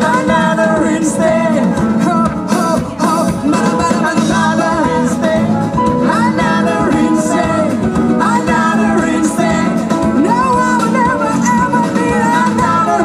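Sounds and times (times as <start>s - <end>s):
live band playing pop song: 0.0s - 13.0s
woman singing: 0.0s - 13.0s.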